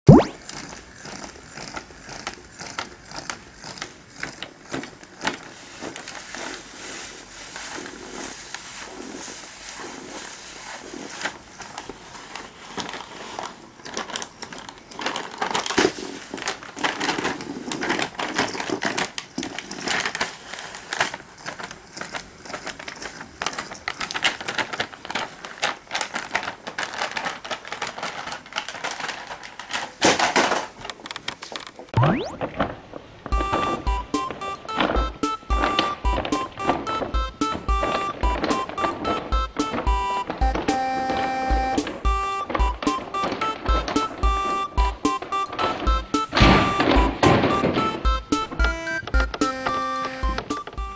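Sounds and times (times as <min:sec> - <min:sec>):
toy bag crinkling and rustling: 0:00.1 - 0:50.9.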